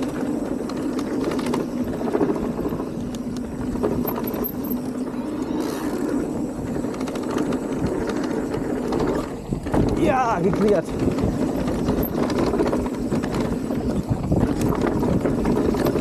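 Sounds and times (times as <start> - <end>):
bike rattles and clatters: 0.0 - 16.0
bike tyres rumbling on dirt: 0.0 - 16.0
wind buffeting microphone: 0.0 - 16.0.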